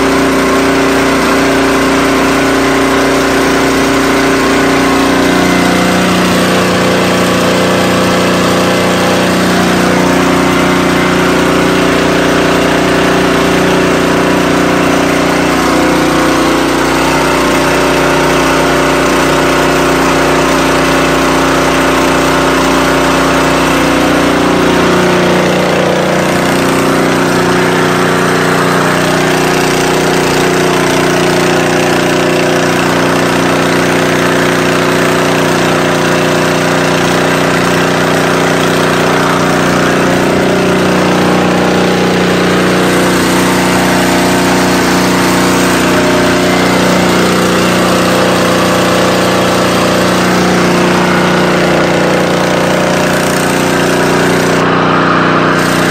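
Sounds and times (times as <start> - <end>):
small petrol engine running: 0.0 - 55.9
water jet hissing: 0.0 - 55.9.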